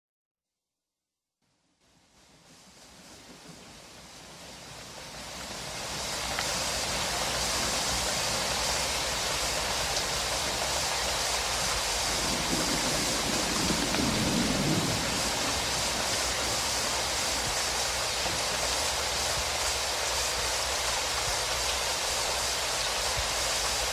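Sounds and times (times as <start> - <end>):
water rushing through spillway: 3.2 - 23.9.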